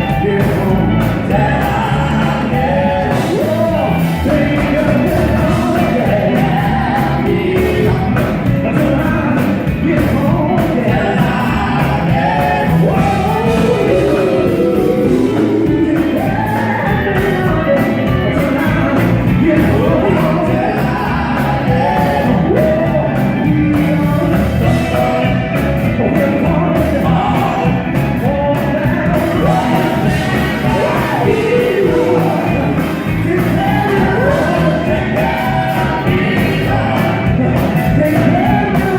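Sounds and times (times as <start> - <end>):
gospel quartet singing: 0.0 - 38.9
instrumental backing: 0.0 - 38.9.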